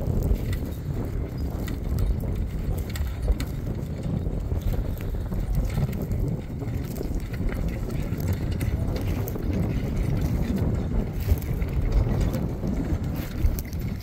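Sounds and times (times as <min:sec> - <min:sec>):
plough harness clicks and clinks: 0:00.0 - 0:14.0
wind on microphone: 0:00.0 - 0:14.0.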